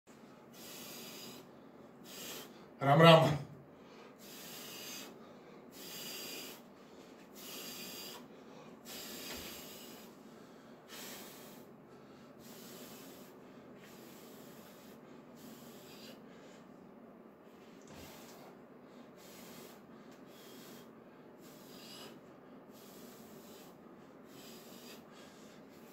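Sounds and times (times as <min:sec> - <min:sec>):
man taking sharp hissing breaths: 0:00.2 - 0:02.8, 0:03.8 - 0:16.8, 0:17.5 - 0:25.9.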